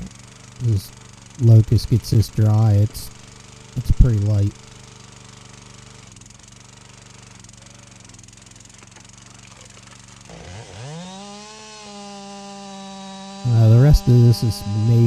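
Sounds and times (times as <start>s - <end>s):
log splitter engine running: 0.0s - 15.0s.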